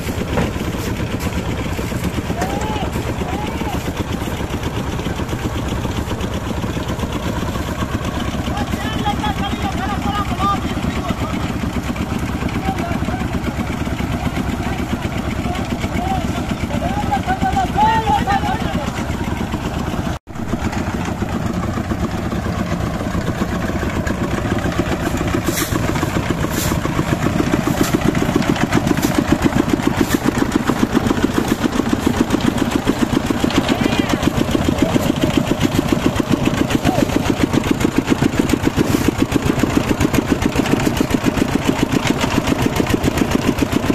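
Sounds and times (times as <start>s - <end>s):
concrete mixer engine running: 0.0s - 43.9s.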